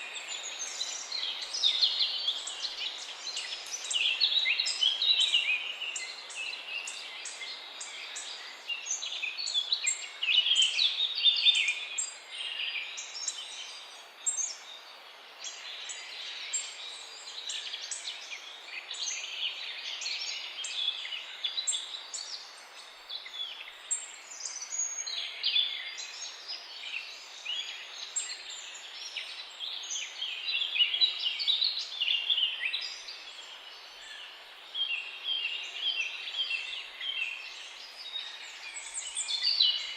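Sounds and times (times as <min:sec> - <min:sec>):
faint steady background hiss: 0:00.0 - 0:39.9
songbirds chirping and trilling: 0:00.0 - 0:39.9.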